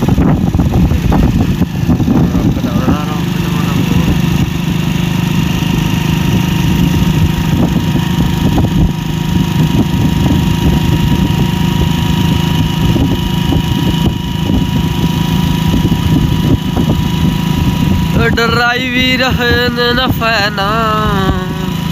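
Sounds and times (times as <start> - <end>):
thin steady whine: 0.0 - 21.9
tractor diesel engine running: 0.0 - 21.9.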